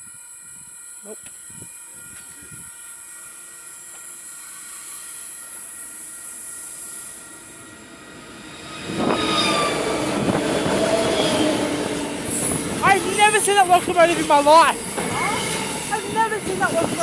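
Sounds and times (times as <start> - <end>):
train wheels squealing: 0.0 - 17.0
train passing with rumble: 1.7 - 17.0.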